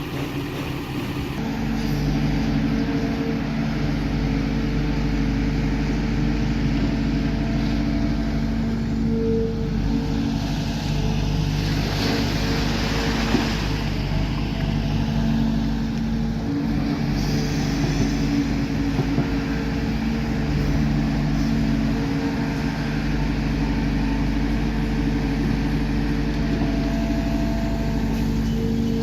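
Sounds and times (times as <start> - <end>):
diesel machinery engine running: 0.0 - 29.0.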